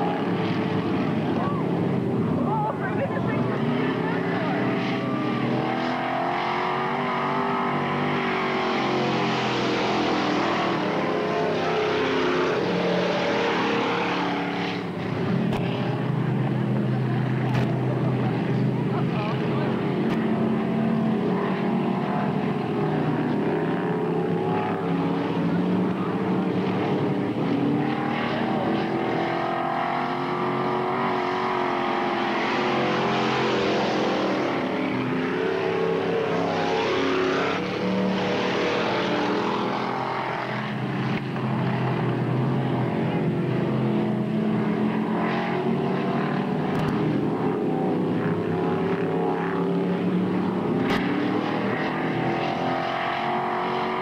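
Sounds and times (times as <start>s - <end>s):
race car engines running: 0.0s - 54.0s.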